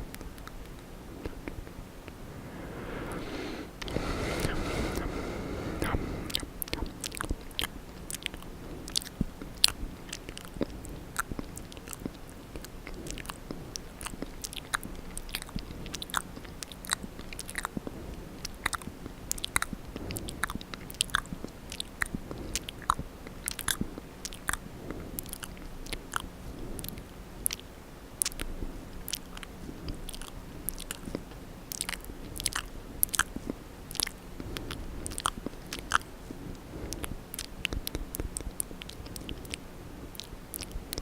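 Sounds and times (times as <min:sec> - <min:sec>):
wet mouth sounds: 0:00.1 - 0:41.0.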